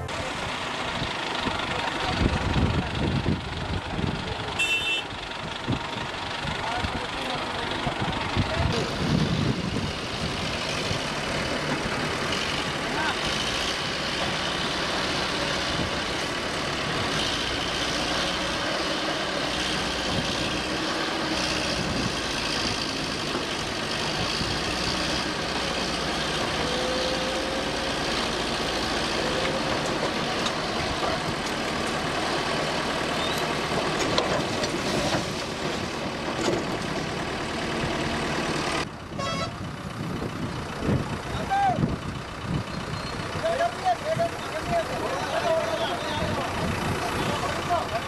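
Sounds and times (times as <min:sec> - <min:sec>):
crane diesel engine under load: 0:00.0 - 0:48.0.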